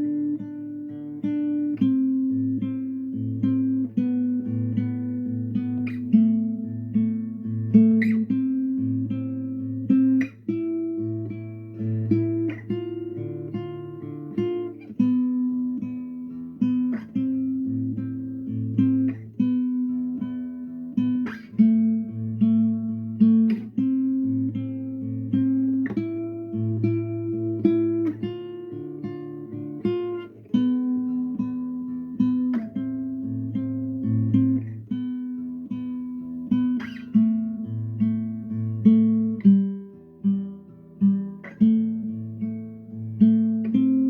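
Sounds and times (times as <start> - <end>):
acoustic guitar melody: 0.0 - 44.0.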